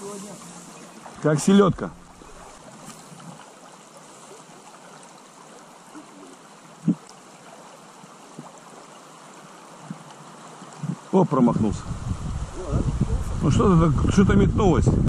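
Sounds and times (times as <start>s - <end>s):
river running over stones: 0.0s - 14.5s.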